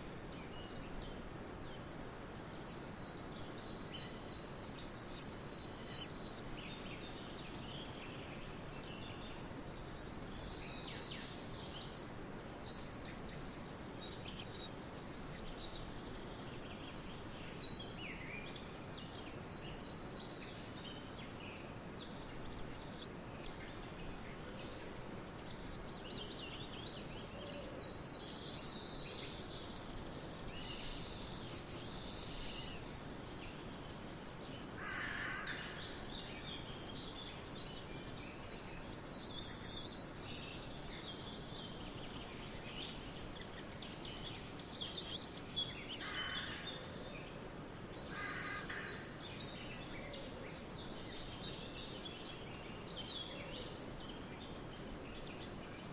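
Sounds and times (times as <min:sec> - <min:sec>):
forest ambience hiss: 0:00.0 - 0:55.9
birds singing and calling: 0:00.2 - 0:55.9.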